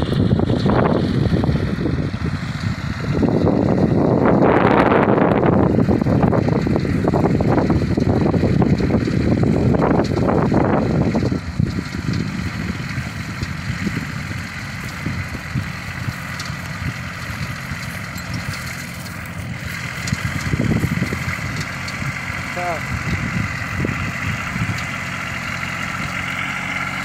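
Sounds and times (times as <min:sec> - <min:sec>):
tractor engine running: 0:00.0 - 0:27.0
wind buffeting microphone: 0:00.0 - 0:27.0.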